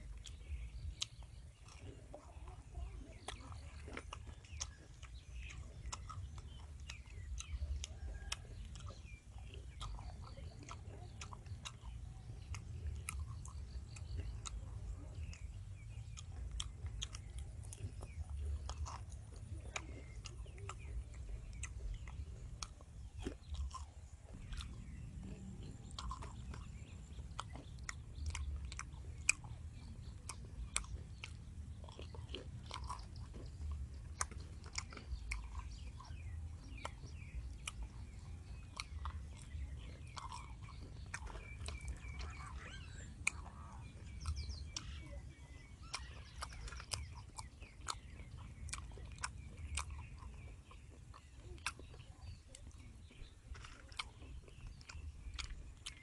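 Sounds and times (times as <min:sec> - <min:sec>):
chewing crunchy fried food: 0:00.0 - 0:56.0.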